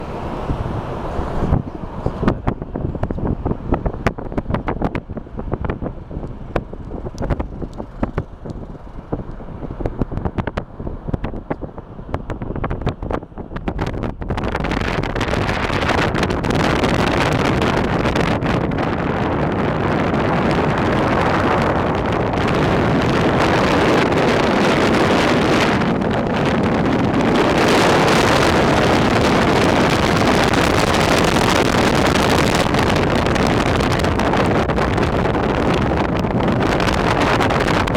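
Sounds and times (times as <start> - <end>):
road traffic noise: 0.0 - 37.9
wind buffeting microphone: 0.0 - 37.9.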